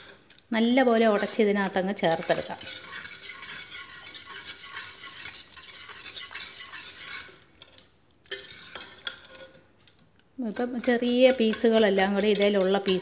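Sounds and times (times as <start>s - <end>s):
whisk scraping metal pot: 0.0s - 9.7s, 10.4s - 13.0s.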